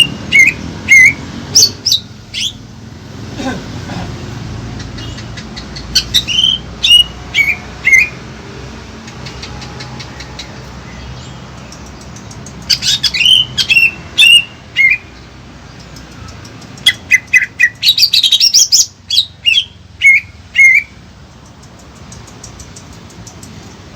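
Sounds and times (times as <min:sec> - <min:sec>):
songbird chirping: 0:00.0 - 0:03.3, 0:04.3 - 0:23.9.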